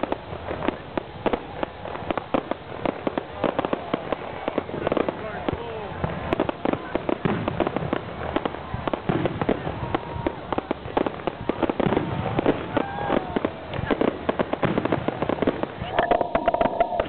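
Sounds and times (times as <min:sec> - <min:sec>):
fireworks exploding: 0:00.0 - 0:17.0.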